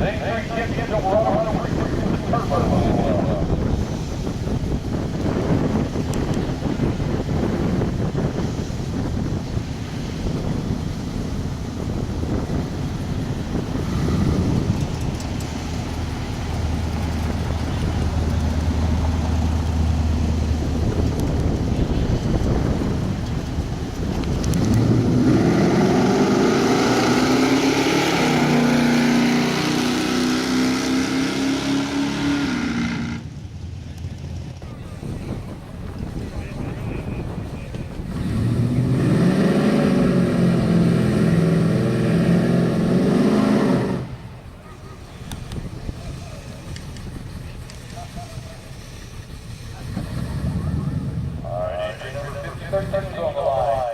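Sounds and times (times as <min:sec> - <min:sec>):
car engine humming: 0:00.0 - 0:53.9.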